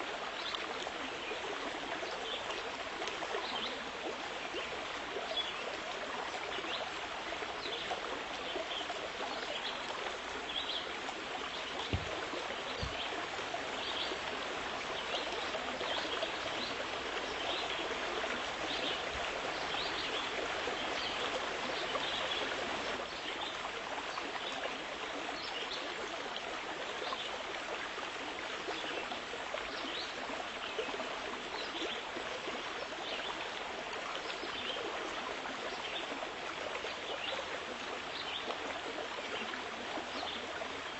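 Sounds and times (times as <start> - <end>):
flowing water: 0.0 - 40.9.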